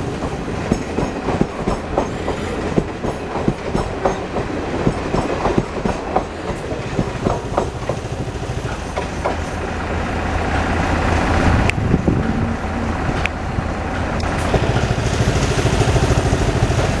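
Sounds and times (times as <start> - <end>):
train wheels clicking over rail joints: 0.0 - 9.9, 13.0 - 17.0
train rumble: 0.0 - 17.0.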